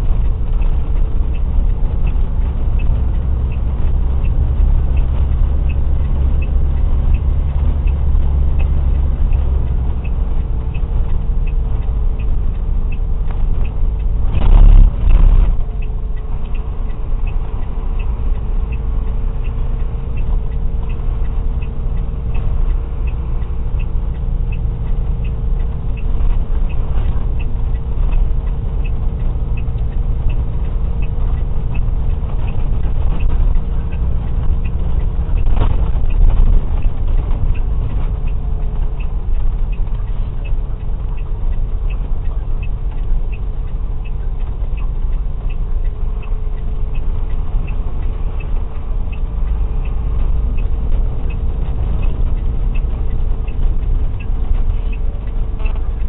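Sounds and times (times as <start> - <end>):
faint regular ticking: 0.0 - 56.0
faint whine: 0.0 - 56.0
truck engine and tyres rumbling: 0.0 - 56.0.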